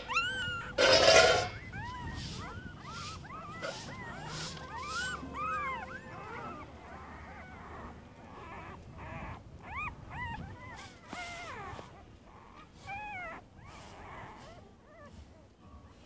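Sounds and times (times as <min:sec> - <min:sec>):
puppies whimpering: 0:00.0 - 0:16.0.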